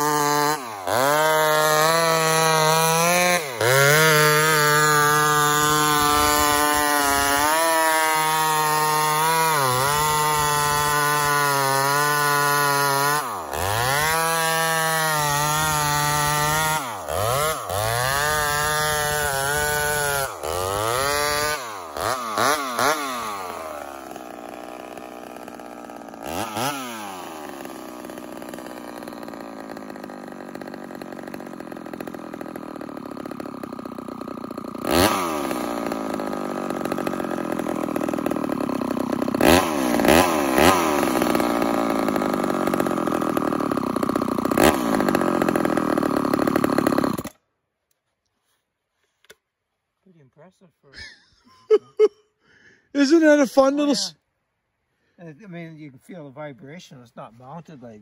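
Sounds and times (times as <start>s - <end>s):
chainsaw cutting log: 0.0s - 47.4s, 51.0s - 54.1s
chainsaw idling: 0.0s - 47.4s, 52.4s - 54.1s.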